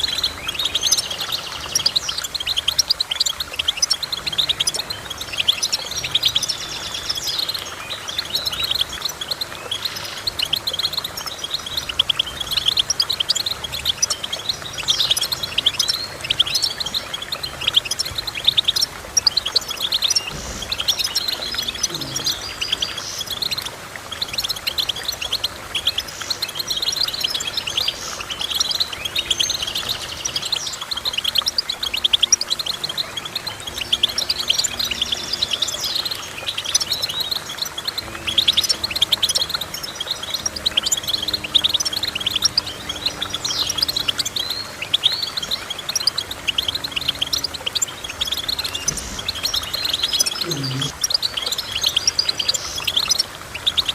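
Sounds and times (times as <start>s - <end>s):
finches twittering: 0.0s - 53.9s.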